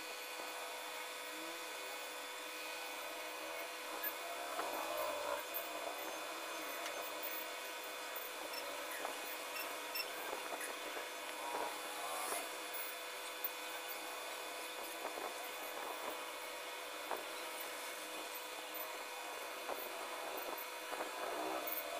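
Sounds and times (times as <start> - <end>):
steady background hum: 0.0 - 21.9.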